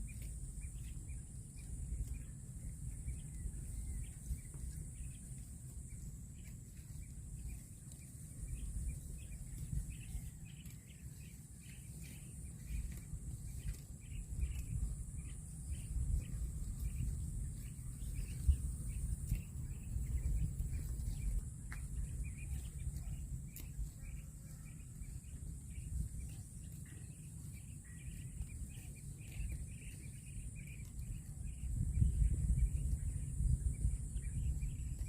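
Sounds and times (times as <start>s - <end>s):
low rumble: 0.0s - 35.0s
small birds chirping: 0.0s - 35.0s.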